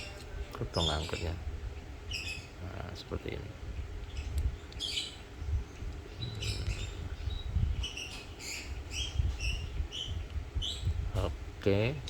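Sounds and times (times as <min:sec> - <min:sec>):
bird chirping: 0:00.0 - 0:01.4, 0:02.0 - 0:03.1, 0:04.0 - 0:11.3
low rumble: 0:00.0 - 0:12.0.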